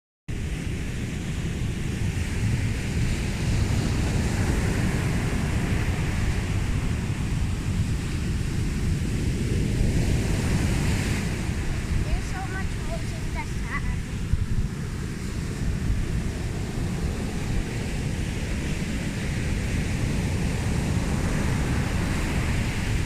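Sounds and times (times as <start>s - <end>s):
wind noise on microphone: 0.3s - 23.0s.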